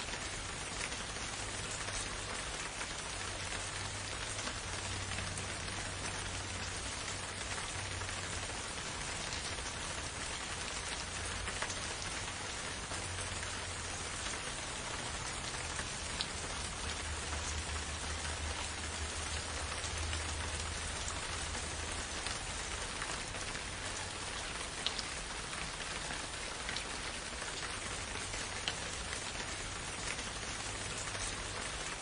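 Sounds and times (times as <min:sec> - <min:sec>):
rain patter in forest: 0:00.0 - 0:32.0.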